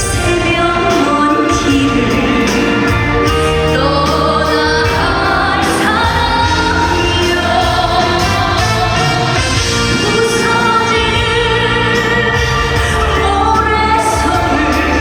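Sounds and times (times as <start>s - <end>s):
backing music with steady beat: 0.0s - 15.0s
woman singing: 0.0s - 15.0s.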